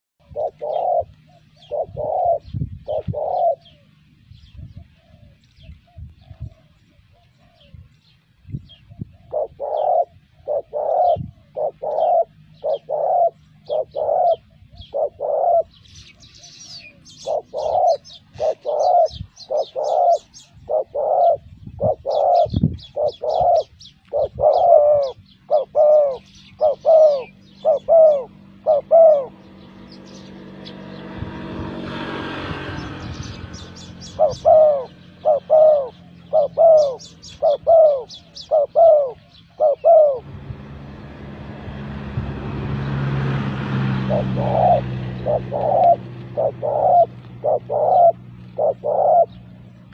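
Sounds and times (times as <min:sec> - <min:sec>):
doves cooing: 0:00.2 - 0:08.2, 0:08.8 - 0:49.9
high chirps of small birds: 0:00.2 - 0:41.1, 0:44.0 - 0:49.9.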